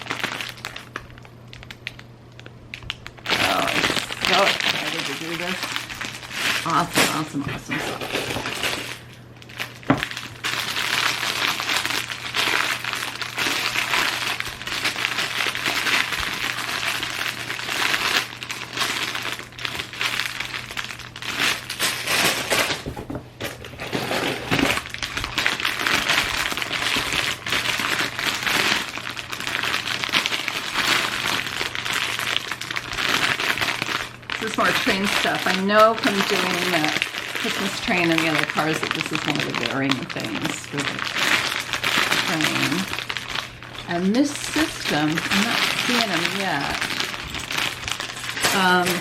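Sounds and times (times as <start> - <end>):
plastic bags crinkling: 0.0 - 49.0.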